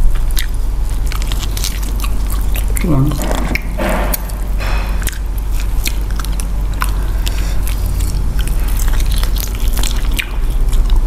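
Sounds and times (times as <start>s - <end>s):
chewing and biting food: 0.0s - 11.0s
steady low hum: 0.0s - 11.0s
wet mouth clicks and smacks: 0.0s - 11.0s.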